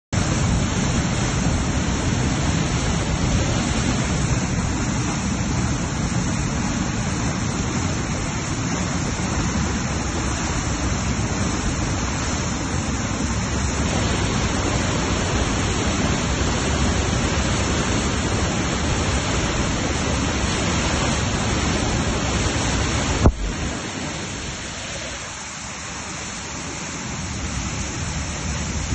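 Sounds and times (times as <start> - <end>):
river water rushing: 0.2 - 28.9.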